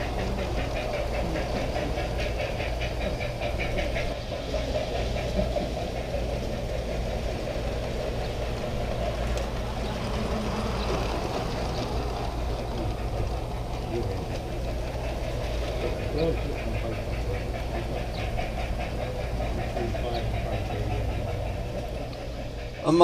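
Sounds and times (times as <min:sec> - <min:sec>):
model train motor drone: 0:00.0 - 0:23.0
rapid even ticking: 0:00.0 - 0:23.0.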